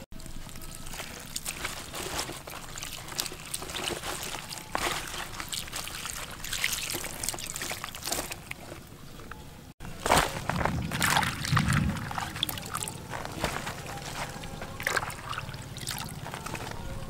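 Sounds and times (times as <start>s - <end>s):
wet squishy rustling of fruit: 0.0s - 17.0s.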